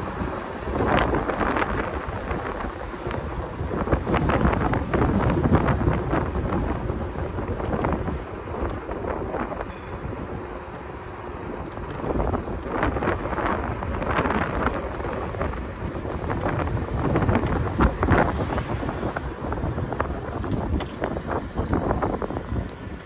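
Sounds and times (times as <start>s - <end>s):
tyres rumbling on road: 0.0s - 23.0s
wind buffeting microphone: 0.0s - 23.0s.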